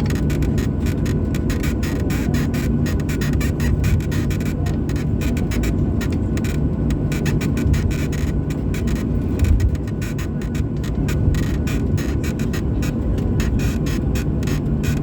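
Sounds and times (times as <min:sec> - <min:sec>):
constant low hum: 0:00.0 - 0:15.0
jet engines and airflow rumble: 0:00.0 - 0:15.0.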